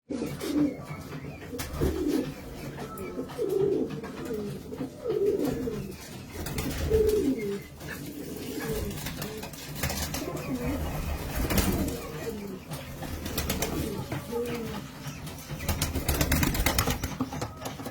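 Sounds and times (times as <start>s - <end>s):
pigeons cooing: 0.1s - 17.9s.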